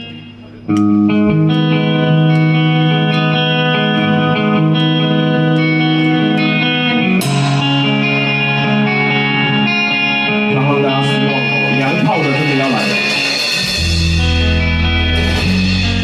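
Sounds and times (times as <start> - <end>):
chorus-tinged guitar chords: 0.0 - 16.0.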